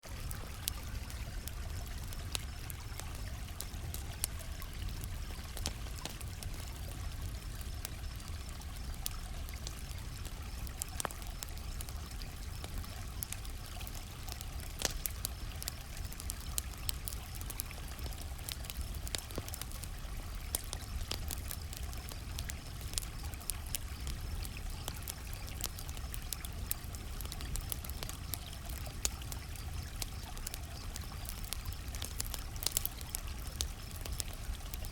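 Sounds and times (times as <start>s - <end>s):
campfire crackling and popping: 0.0s - 34.9s
crickets chirping: 0.2s - 34.9s.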